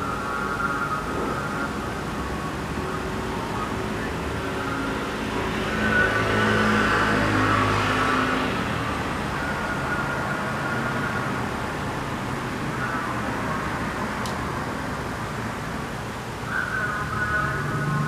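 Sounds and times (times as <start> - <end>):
background traffic noise: 0.0 - 18.0
car passing: 0.0 - 18.0.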